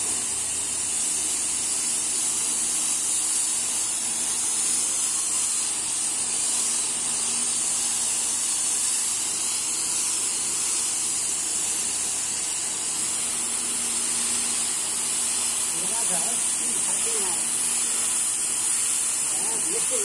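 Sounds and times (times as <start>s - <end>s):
pressure washer spraying water: 0.0s - 20.0s.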